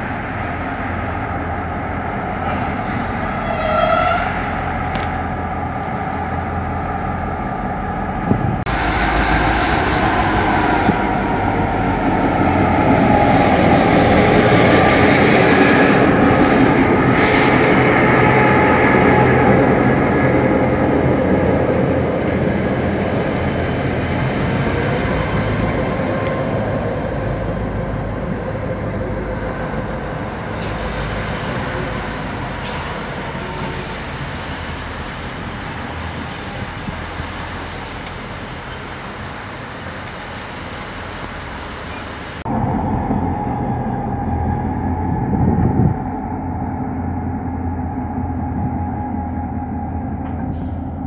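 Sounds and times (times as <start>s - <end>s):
diesel locomotives passing: 0.0s - 51.0s.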